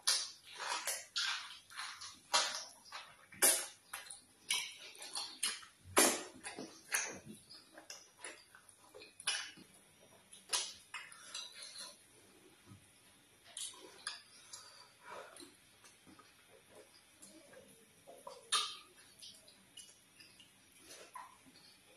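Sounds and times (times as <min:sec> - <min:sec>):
wet chewing and lip smacks: 0:00.0 - 0:12.0, 0:13.4 - 0:21.9.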